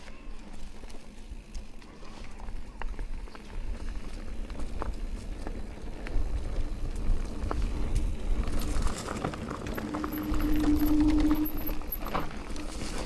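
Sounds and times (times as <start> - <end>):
bike tyres rolling on dirt: 0.0 - 13.0.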